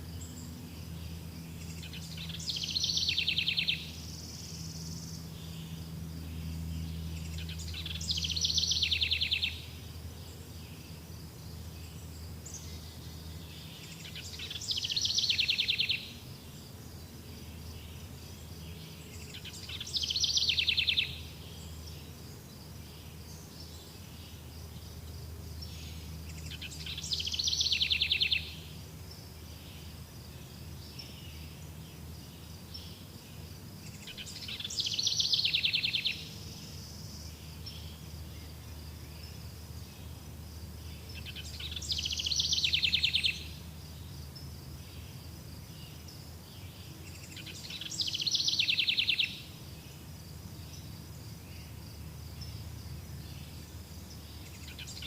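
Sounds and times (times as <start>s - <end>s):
songbird trilling song: 0.0s - 55.0s.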